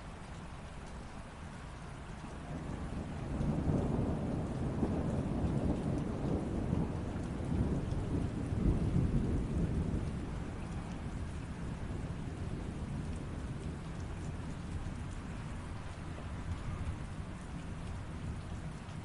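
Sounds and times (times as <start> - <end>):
steady rain: 0.0 - 19.0
low roll of thunder: 2.2 - 19.0.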